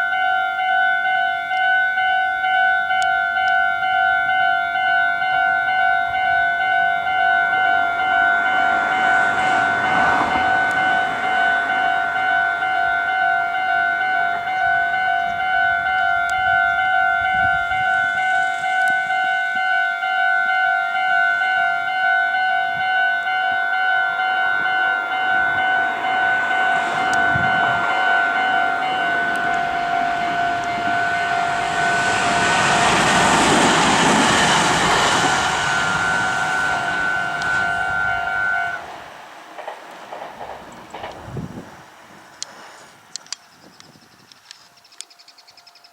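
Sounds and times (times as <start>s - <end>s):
level crossing warning bells: 0.0s - 39.0s
train wheel rush: 0.8s - 45.9s.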